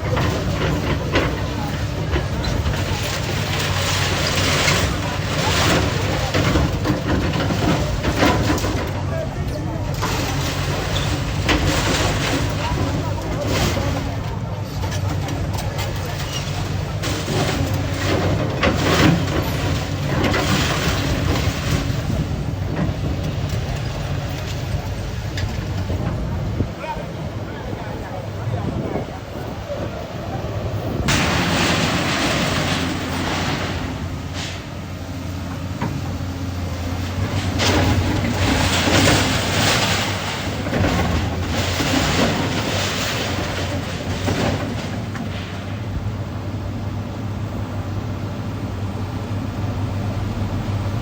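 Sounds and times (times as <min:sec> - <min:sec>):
rubble crashing and crumbling: 0:00.0 - 0:46.5
demolition machinery engine: 0:00.0 - 0:51.0.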